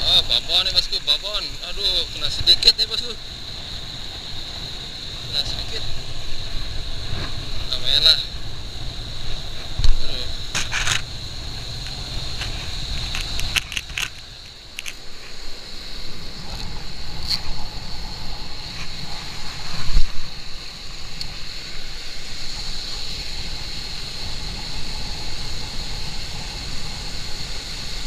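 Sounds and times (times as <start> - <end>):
high hiss: 0.0 - 28.0
wind blowing on microphone: 0.0 - 28.0.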